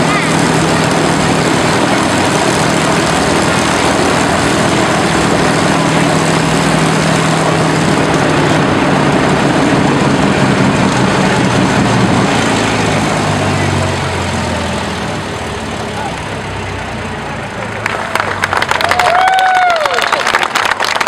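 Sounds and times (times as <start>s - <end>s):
propeller aircraft engines droning: 0.0s - 19.7s.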